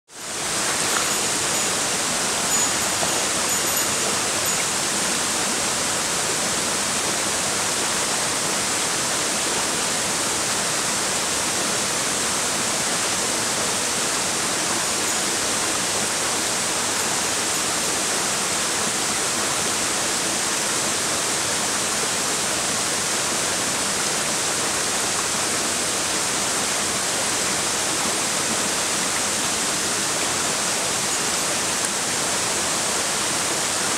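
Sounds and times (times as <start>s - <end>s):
stream rushing over rocks: 0.1s - 33.9s.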